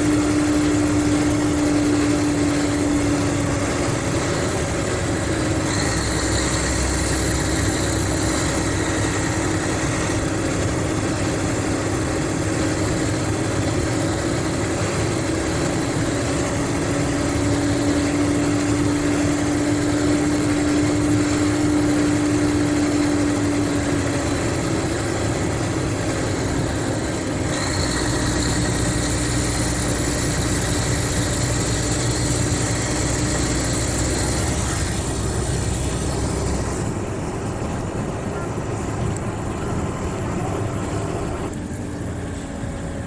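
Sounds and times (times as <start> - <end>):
diesel engine rumbling: 0.0 - 43.0.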